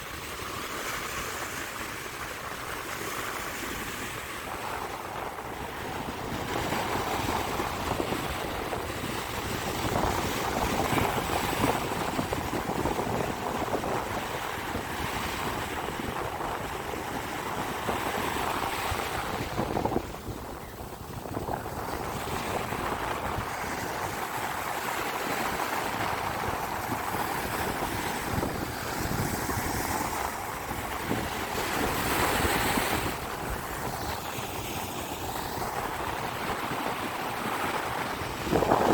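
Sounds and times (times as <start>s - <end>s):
sea waves breaking on beach: 0.0s - 38.9s
wind buffeting microphone: 0.0s - 38.9s.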